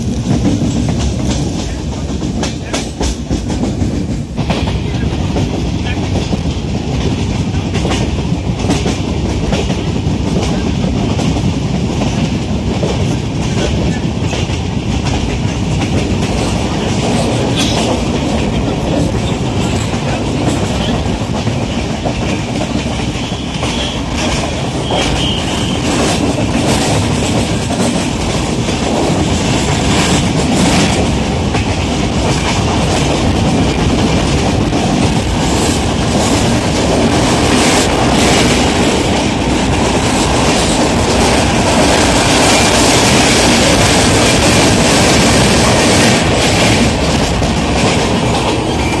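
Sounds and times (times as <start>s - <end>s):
clickety-clack of rail joints: 0.0s - 49.0s
train wheels rumbling on track: 0.0s - 49.0s.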